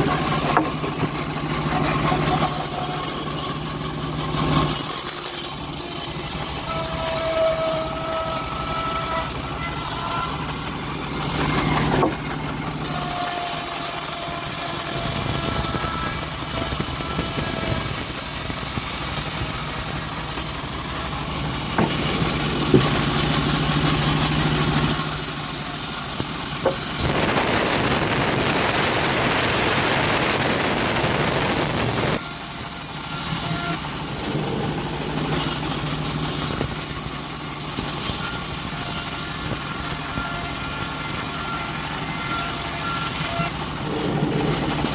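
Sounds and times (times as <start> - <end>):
bandsaw running: 0.0 - 44.9
saw blade cutting wood: 0.0 - 44.9.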